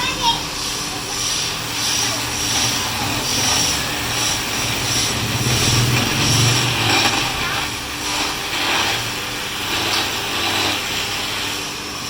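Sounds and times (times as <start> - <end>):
lathe motor hum: 0.0 - 12.0
cutting tool scraping spinning wood: 0.8 - 12.0.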